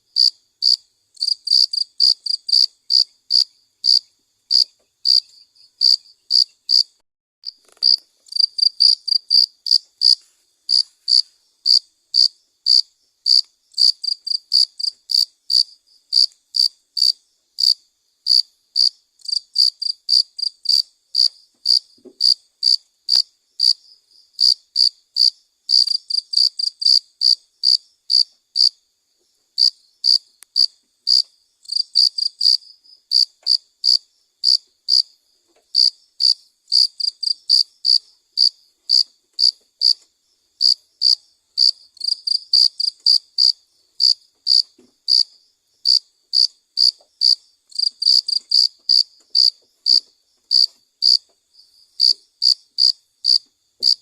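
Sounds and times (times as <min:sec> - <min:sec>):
cricket chirping: 0:00.1 - 0:54.0.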